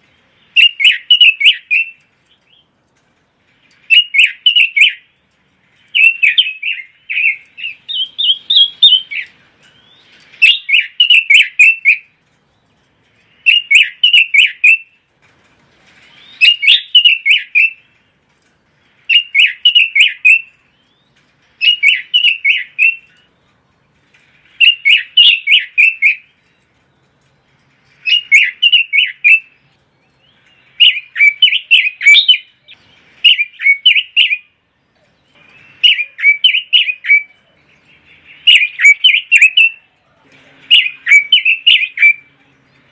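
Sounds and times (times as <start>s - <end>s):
bird warbling song: 0.0s - 15.0s, 15.9s - 18.1s, 18.8s - 42.9s.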